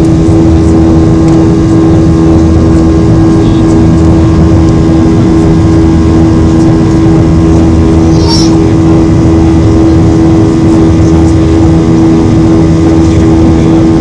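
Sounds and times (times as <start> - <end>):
constant hum tone: 0.0 - 14.0
jet engines droning: 0.1 - 14.0.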